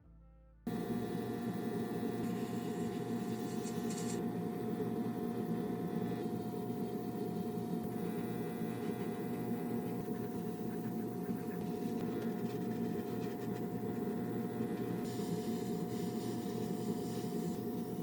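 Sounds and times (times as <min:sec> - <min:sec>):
small machine humming: 0:00.7 - 0:18.0.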